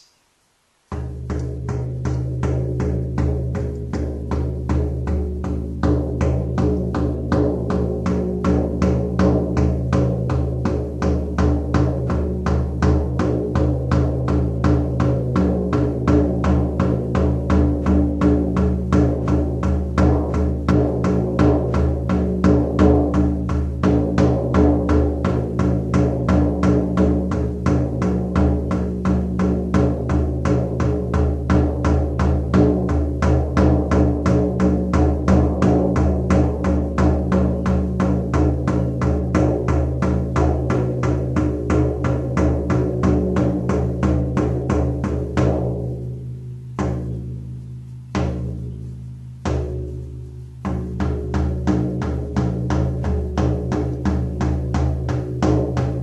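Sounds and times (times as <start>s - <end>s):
hand drum beating: 0.9s - 56.0s.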